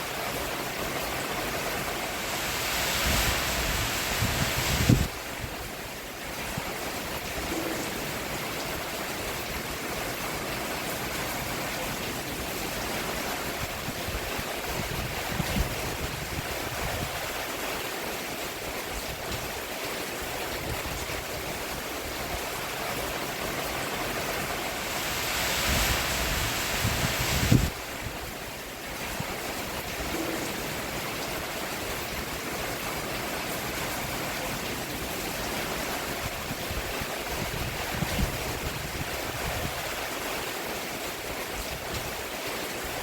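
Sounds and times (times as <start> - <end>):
rain on a roof: 0.0 - 43.0.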